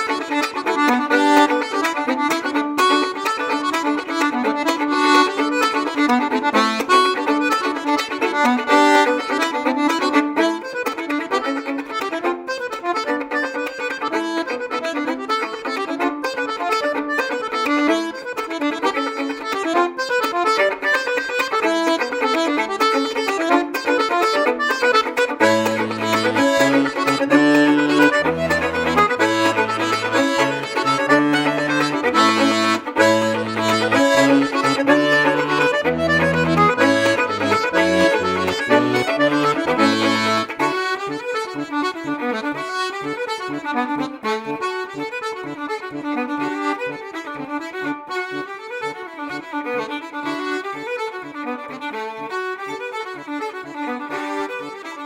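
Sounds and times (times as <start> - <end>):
folk tune on accordion and fiddle: 0.0 - 55.0.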